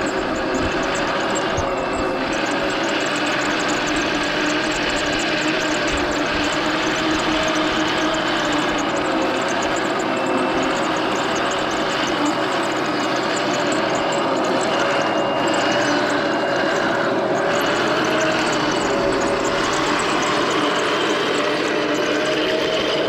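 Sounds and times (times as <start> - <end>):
fast fine ticking: 0.0 - 23.0
toy tank mechanical whir: 0.0 - 23.0.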